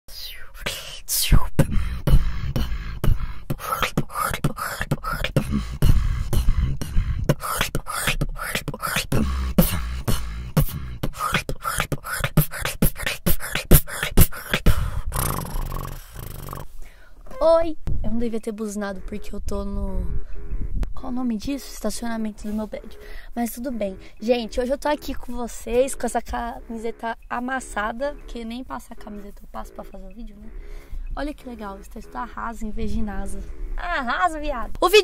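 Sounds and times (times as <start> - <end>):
woman beatboxing: 0.1 - 16.7, 17.3 - 20.2, 20.8 - 35.0.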